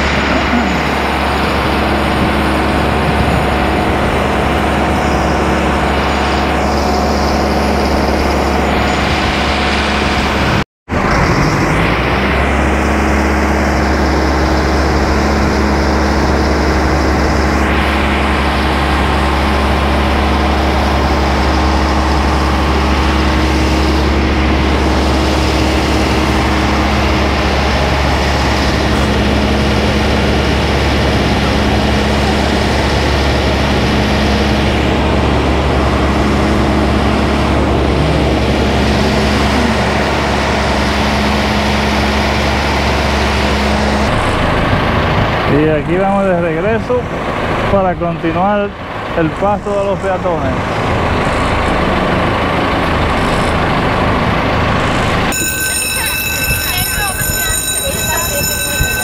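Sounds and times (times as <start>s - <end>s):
large engine low drone: 0.0s - 59.0s.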